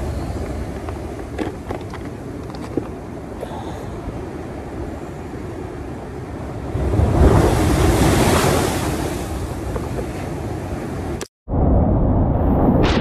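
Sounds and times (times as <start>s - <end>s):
ocean surf breaking: 0.0s - 11.2s.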